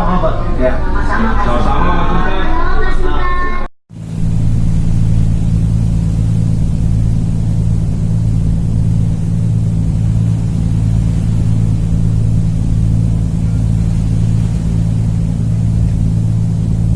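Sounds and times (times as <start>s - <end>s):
ferry engines droning: 0.0s - 16.9s.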